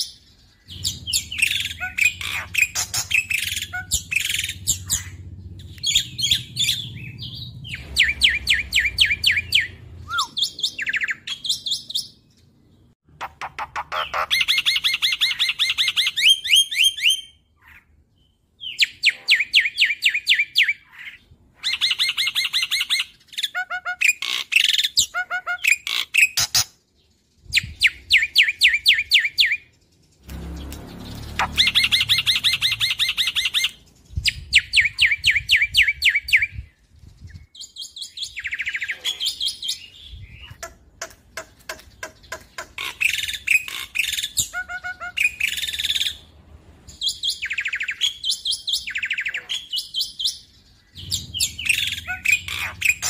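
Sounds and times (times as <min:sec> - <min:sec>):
bird chattering song: 0:00.0 - 0:53.0.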